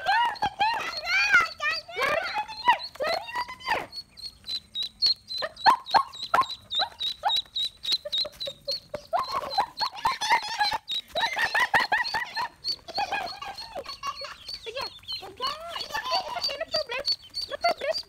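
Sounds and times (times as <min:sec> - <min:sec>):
ducklings peeping: 0:00.0 - 0:18.0.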